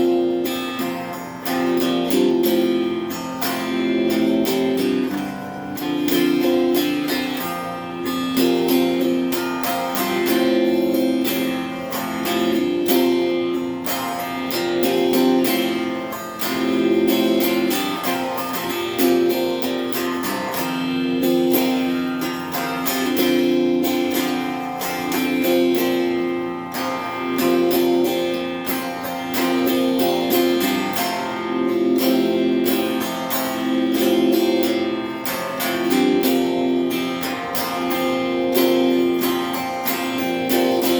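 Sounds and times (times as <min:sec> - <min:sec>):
electric guitar strumming chords: 0:00.0 - 0:40.9.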